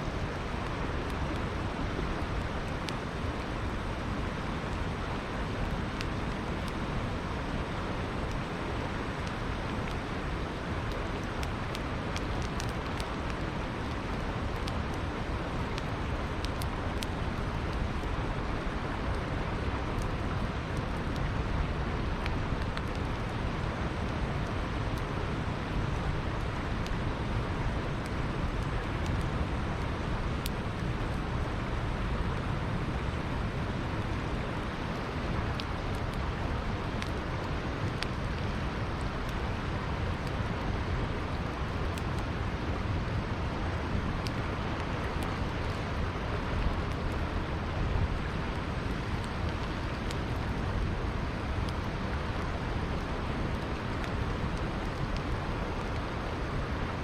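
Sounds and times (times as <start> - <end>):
faint campfire crackles: 0.0 - 57.0
river water flowing: 0.0 - 57.0.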